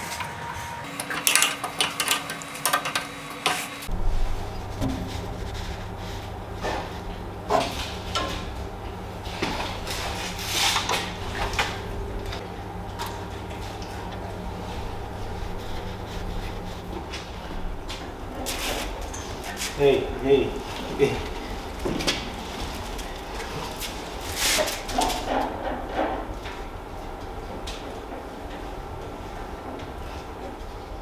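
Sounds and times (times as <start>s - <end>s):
steady low hum: 3.7s - 31.0s.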